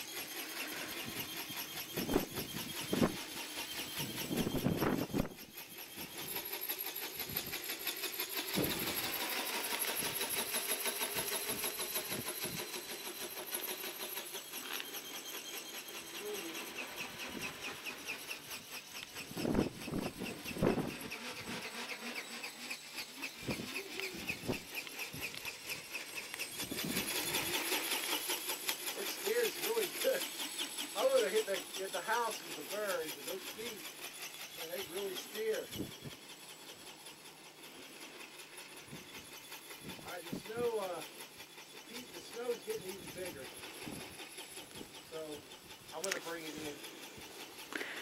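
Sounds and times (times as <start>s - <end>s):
model aircraft motor buzzing: 0.0s - 48.0s.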